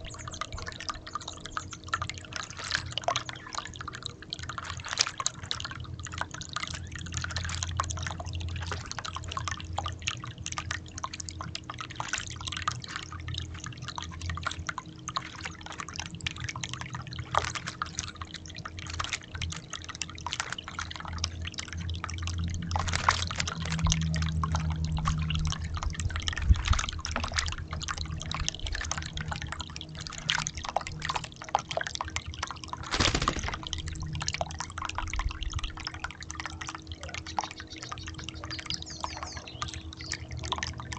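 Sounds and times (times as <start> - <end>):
steady low hum: 0.0 - 40.9
water splashing in a birdbath: 0.0 - 40.9.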